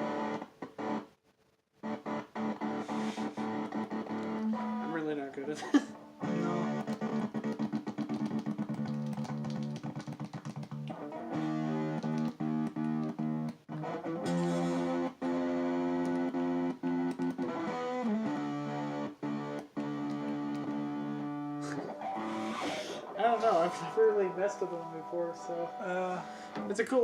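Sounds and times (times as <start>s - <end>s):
electric guitar stuttering with kill switch: 1.8s - 5.2s, 6.2s - 27.0s.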